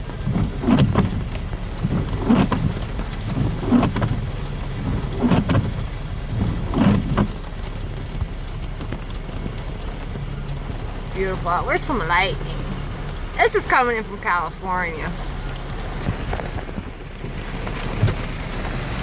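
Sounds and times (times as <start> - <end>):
car low hum: 0.0 - 19.0
heavy rain on a car: 0.0 - 19.0
windshield wipers swishing: 0.0 - 19.0.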